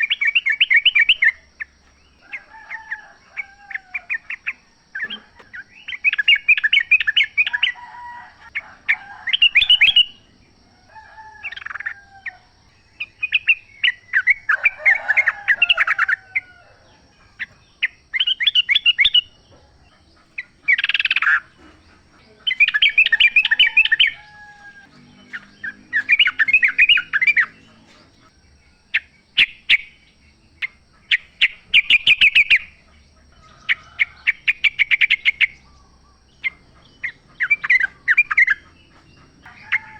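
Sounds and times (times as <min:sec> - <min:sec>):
bird chattering song: 0:00.0 - 0:10.7, 0:11.3 - 0:39.9.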